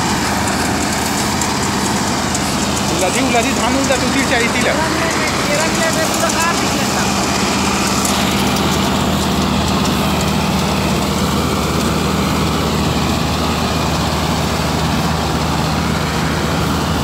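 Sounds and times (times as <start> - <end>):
threshing machinery: 0.0 - 17.0
tractor diesel engine running: 0.0 - 17.0.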